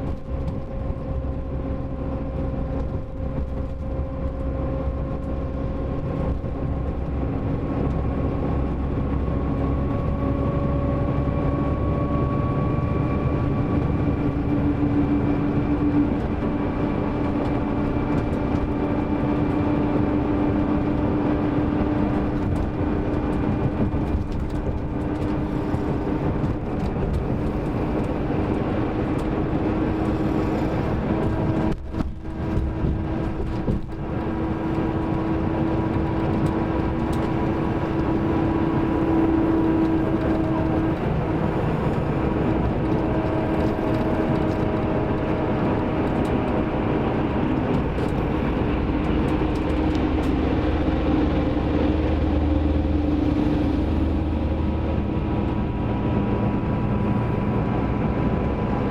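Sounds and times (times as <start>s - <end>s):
coach diesel engine rumbling: 0.0s - 58.9s.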